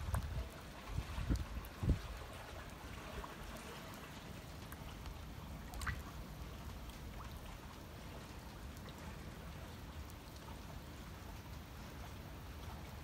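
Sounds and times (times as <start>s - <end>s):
rain on standing water: 0.0s - 13.0s
small drip-like ticks: 0.0s - 13.0s.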